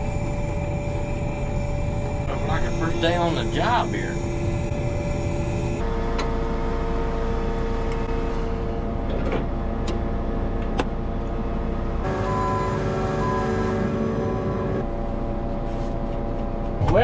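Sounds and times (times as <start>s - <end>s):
combine harvester diesel engine: 0.0s - 17.0s.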